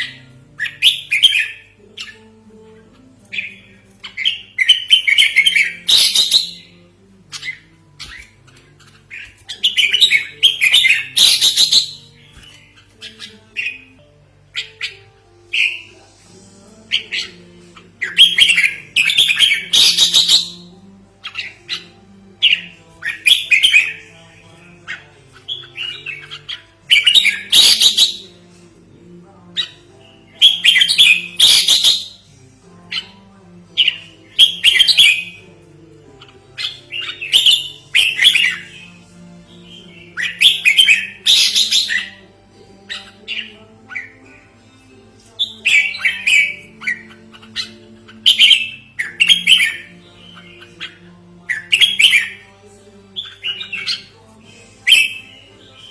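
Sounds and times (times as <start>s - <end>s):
bird chirping phrases: 0.0s - 55.9s.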